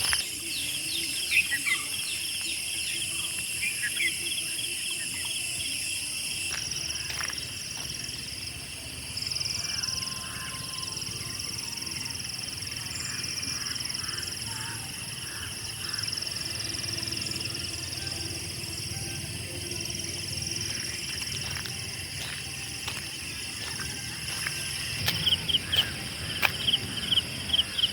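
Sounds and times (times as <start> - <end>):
insects trilling: 0.0 - 27.9
lower insect calls: 0.0 - 27.9.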